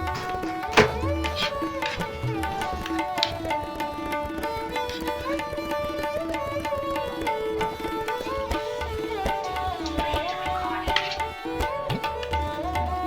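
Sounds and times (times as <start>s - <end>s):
hand drum rhythm: 0.0s - 13.0s
plucked string melody: 0.0s - 13.0s.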